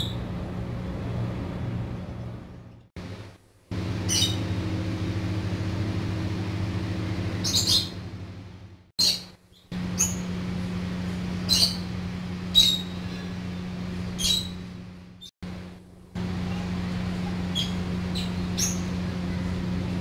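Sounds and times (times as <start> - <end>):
birds chirping: 0.0 - 2.9, 3.7 - 15.6, 16.2 - 20.0
steady low hum: 0.0 - 20.0.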